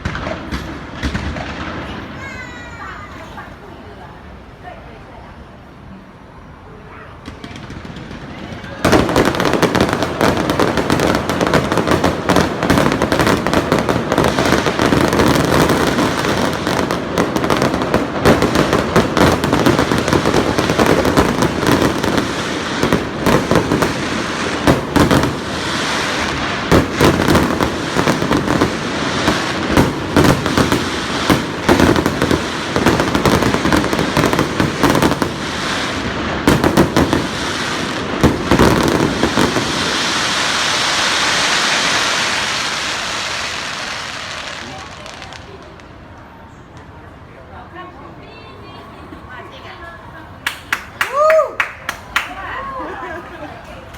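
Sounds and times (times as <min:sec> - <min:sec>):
fireworks crackling and banging: 0:00.0 - 0:04.5, 0:06.7 - 0:47.3, 0:49.2 - 0:53.9.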